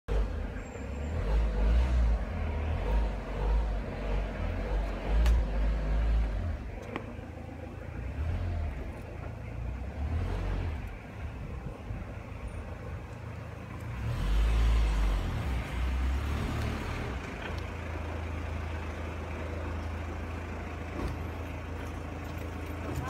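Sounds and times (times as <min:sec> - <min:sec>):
low outdoor rumble: 0:00.1 - 0:23.0.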